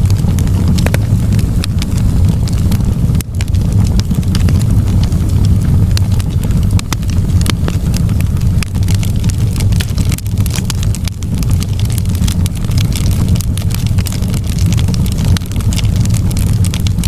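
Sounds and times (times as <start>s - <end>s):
low rumble: 0.0s - 17.0s
wood fire crackling and popping: 0.0s - 17.0s.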